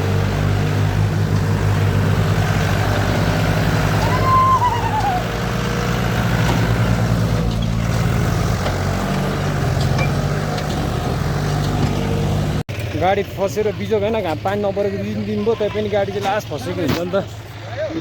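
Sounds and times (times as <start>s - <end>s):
diesel tractor engine straining: 0.0s - 18.0s.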